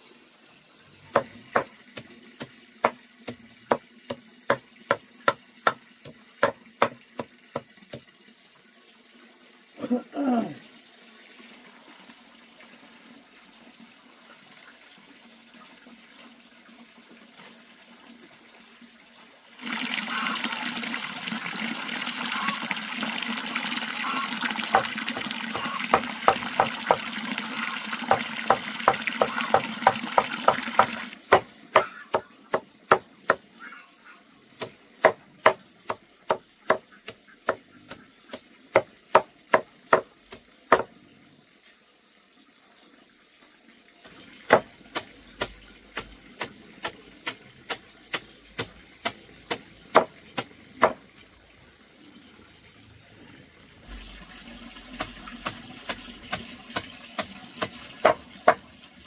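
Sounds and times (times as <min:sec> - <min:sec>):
water running: 0:00.0 - 0:59.0.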